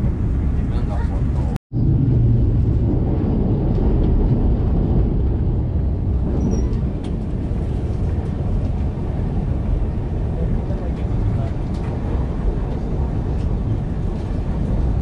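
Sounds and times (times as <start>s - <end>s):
train interior low rumble: 0.0s - 15.0s.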